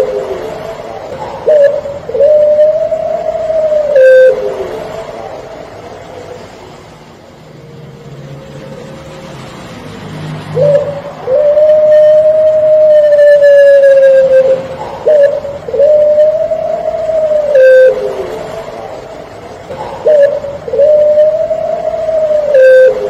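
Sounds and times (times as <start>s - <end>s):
dove cooing: 0.0s - 6.4s, 10.5s - 23.0s.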